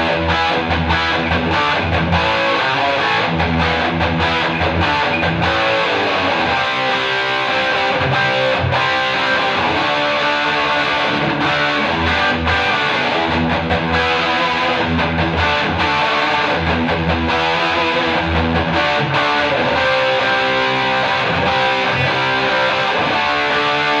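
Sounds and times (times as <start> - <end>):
distorted electric guitar riffing: 0.0 - 24.0.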